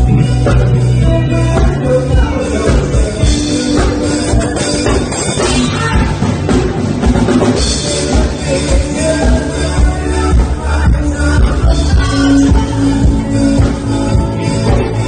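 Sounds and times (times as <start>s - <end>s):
loud music through speakers: 0.0s - 15.0s.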